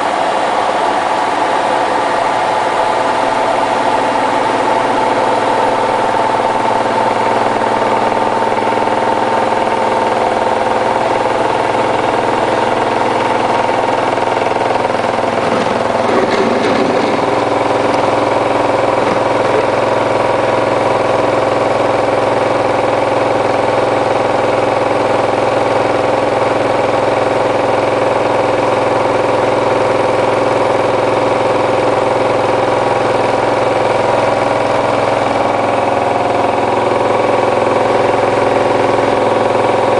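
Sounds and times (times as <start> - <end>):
washing machine spinning whine: 0.0 - 39.9.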